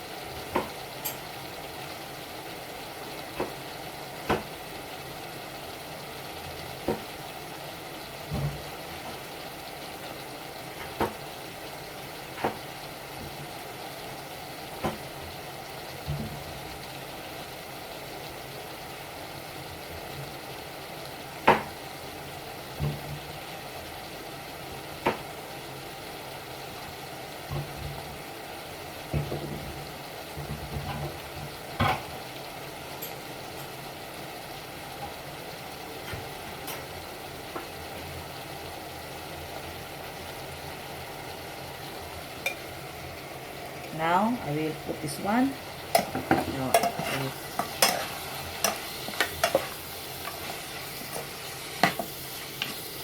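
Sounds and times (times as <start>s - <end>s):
vegetables sizzling in a pan: 0.0s - 53.0s.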